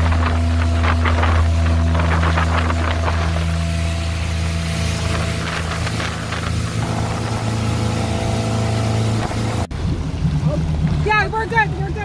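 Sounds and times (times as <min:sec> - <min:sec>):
motorboat engine running: 0:00.0 - 0:12.0
water rushing along hull: 0:00.0 - 0:12.0.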